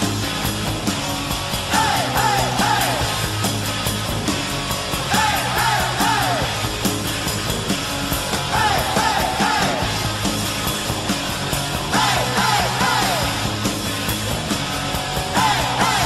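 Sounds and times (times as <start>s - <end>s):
rock song: 0.0s - 16.0s.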